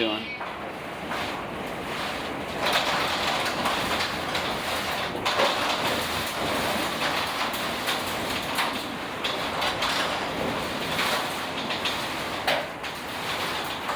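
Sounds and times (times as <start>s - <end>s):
wind and rain gusting: 0.0s - 13.9s
short knocks and rattles: 0.4s - 13.9s.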